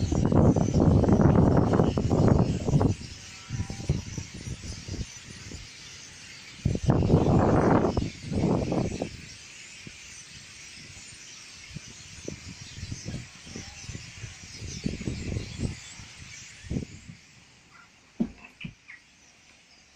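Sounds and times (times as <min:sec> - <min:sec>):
starlings chattering: 0:00.0 - 0:19.9.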